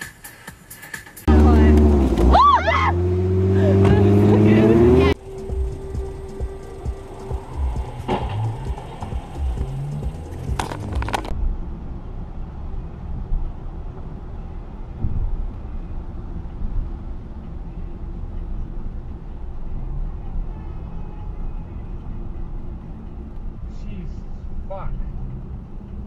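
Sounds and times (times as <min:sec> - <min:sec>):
car interior driving rumble: 0:01.3 - 0:26.0.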